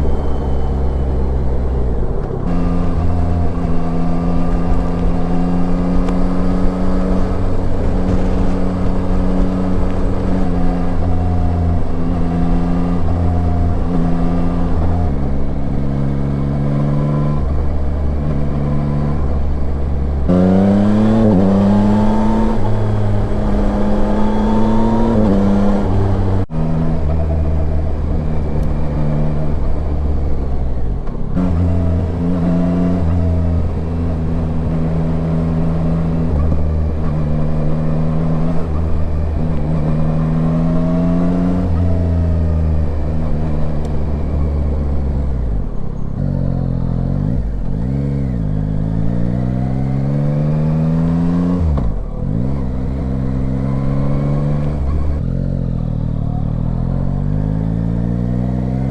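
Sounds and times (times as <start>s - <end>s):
motorcycle engine running: 0.0s - 50.4s.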